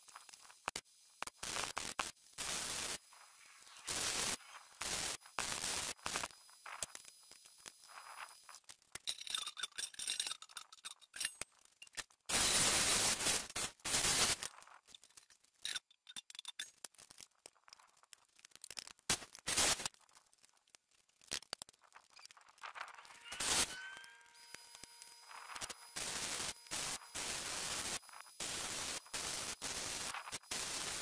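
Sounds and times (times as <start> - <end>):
welding arc crackle: 0.0 - 31.0.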